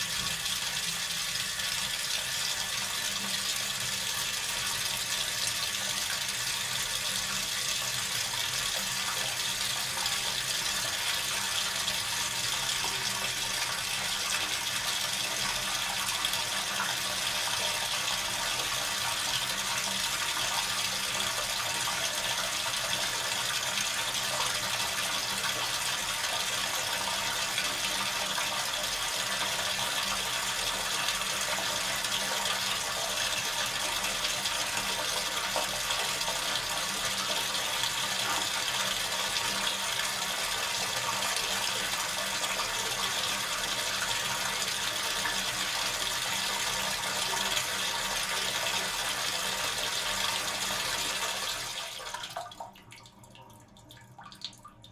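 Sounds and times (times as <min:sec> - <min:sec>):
bathtub faucet running: 0:00.0 - 0:54.9.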